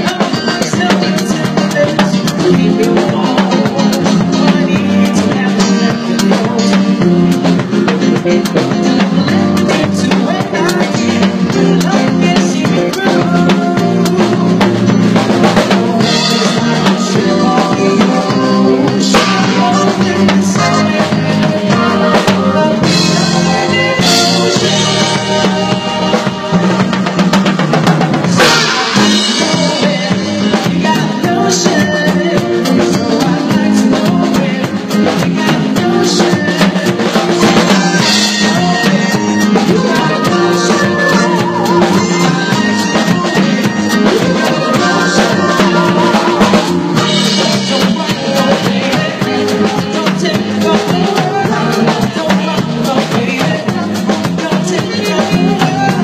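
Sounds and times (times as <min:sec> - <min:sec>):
drums and cymbals: 0:00.0 - 0:56.0
live band music: 0:00.0 - 0:56.0.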